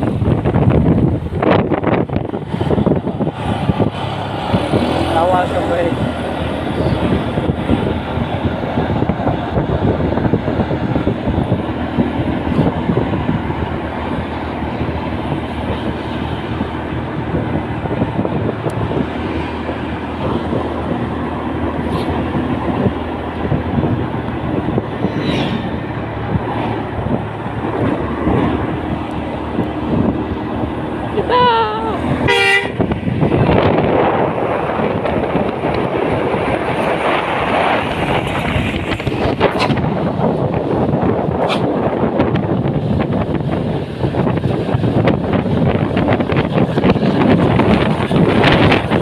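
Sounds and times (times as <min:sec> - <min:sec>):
vehicle engine and road noise: 0:00.0 - 0:49.0.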